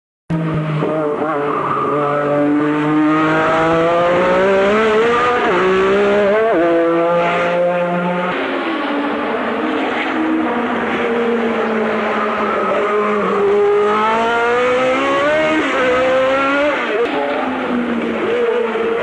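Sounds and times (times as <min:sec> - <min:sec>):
racing car engine at high revs: 0:00.3 - 0:19.0.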